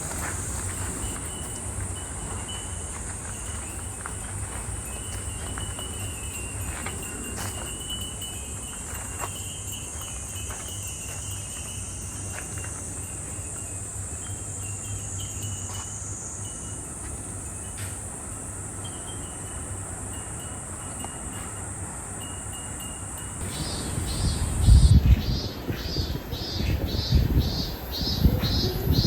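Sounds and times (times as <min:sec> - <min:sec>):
wind chimes ringing: 0:00.0 - 0:27.0
cicadas droning: 0:00.0 - 0:29.0.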